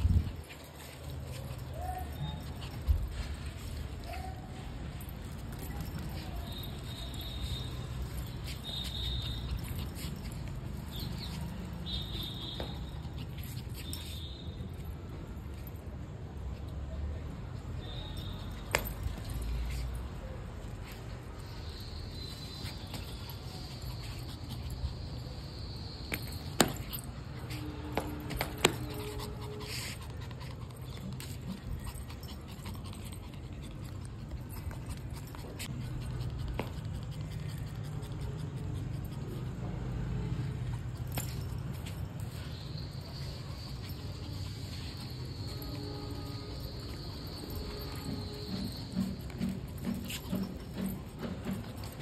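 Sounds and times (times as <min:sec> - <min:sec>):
dog paws pattering on concrete: 0:00.0 - 0:15.9, 0:17.9 - 0:52.0.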